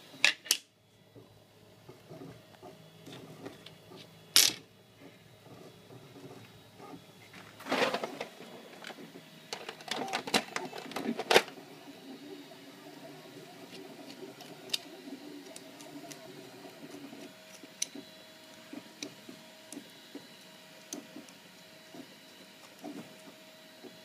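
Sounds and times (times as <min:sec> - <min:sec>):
faint hum of a printer: 0:00.0 - 0:24.0.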